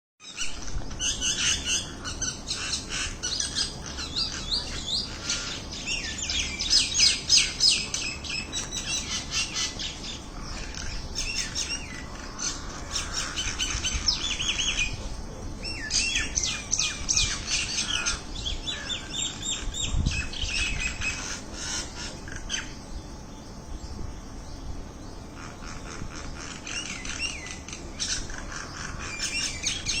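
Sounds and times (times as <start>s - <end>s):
many birds chirping: 0.2s - 30.0s.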